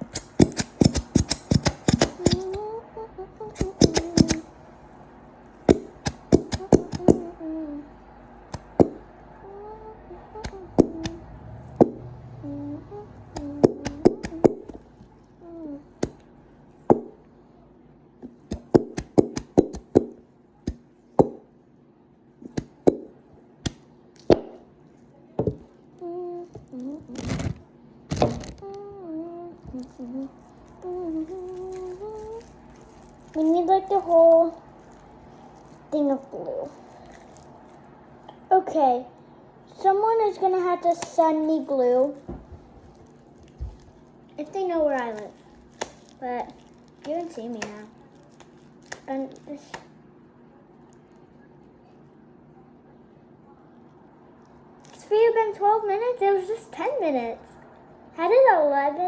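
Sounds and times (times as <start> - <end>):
soft humming: 0.0 - 59.0.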